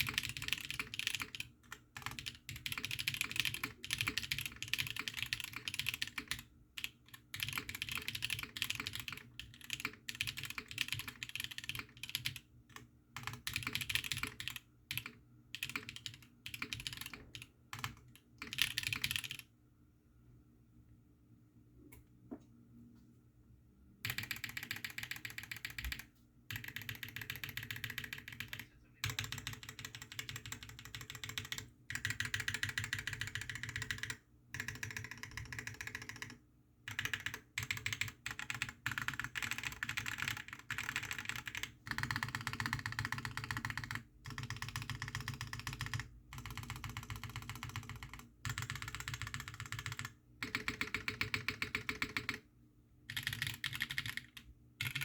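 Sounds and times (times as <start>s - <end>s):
mechanical keyboard typing: 0.0s - 19.4s, 24.0s - 52.4s, 53.1s - 55.0s.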